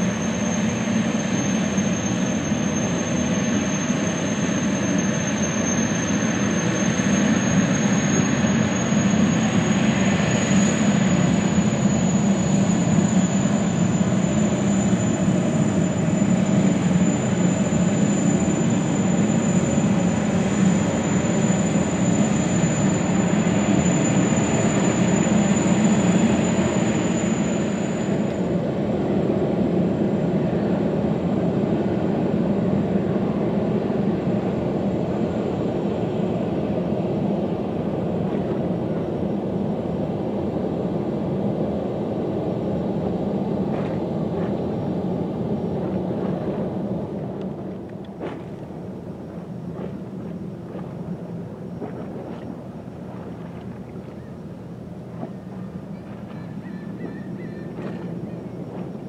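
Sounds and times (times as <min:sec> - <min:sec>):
gas turbine rumble: 0:00.0 - 0:59.0
thin high turbine whine: 0:00.0 - 0:59.0.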